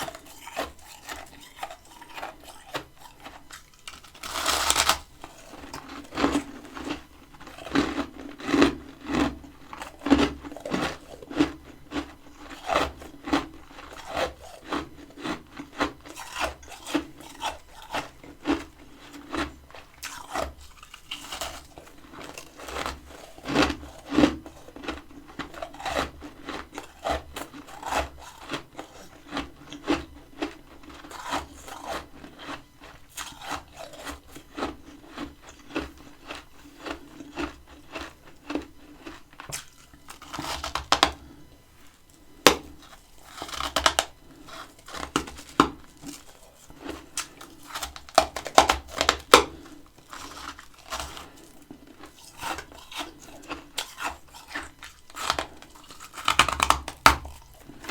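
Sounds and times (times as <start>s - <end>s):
crunching and chewing frost: 0.0s - 57.9s.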